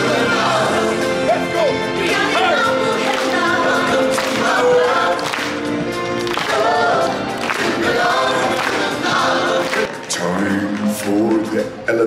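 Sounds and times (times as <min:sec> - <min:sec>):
choir singing: 0:00.0 - 0:11.6
backing music: 0:00.0 - 0:12.0.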